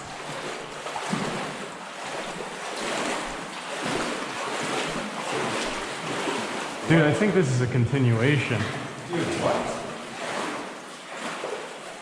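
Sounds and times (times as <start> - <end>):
wading through water: 0.0 - 12.0.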